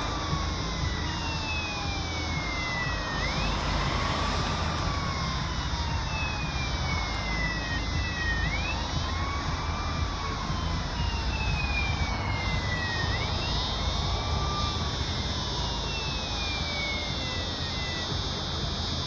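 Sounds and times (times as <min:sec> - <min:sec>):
emergency sirens wailing: 0:00.0 - 0:19.0
low traffic rumble: 0:00.0 - 0:19.0.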